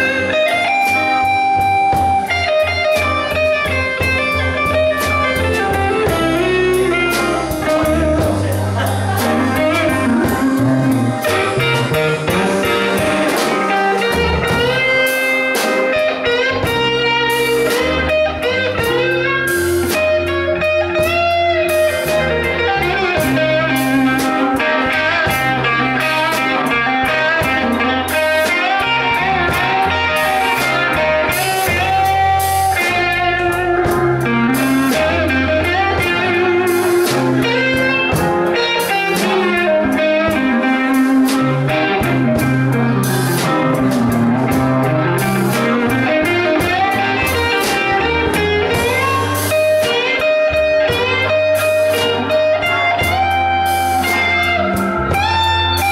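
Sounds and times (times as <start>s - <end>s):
electric guitar lead: 0.0s - 55.9s
live blues band: 0.0s - 55.9s.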